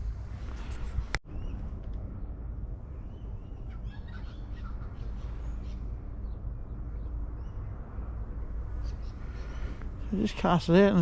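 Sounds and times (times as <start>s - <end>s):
low background rumble: 0.0s - 11.0s
birds chirping: 1.3s - 11.0s.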